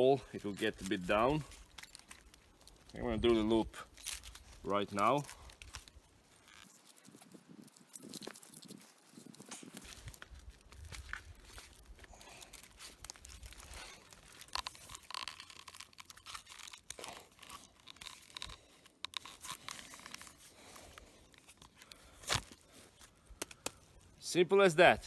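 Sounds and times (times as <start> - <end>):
rustling and crackling of dry litter: 0.0 - 24.2.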